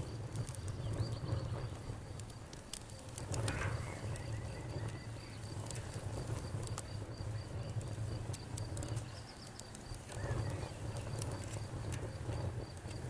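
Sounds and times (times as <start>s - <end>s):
campfire crackling: 0.0s - 13.0s
insects chirping: 0.0s - 13.0s.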